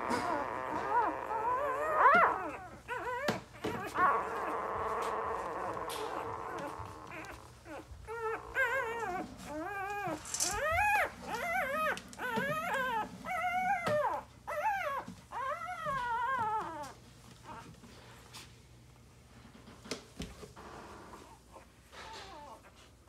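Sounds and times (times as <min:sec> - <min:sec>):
puppies whining: 0:00.0 - 0:18.1, 0:20.5 - 0:23.0.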